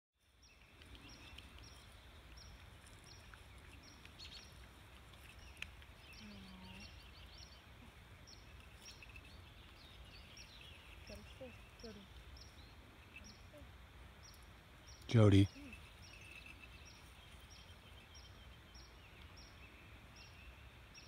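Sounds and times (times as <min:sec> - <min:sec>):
birdsong: 0:00.2 - 0:21.0.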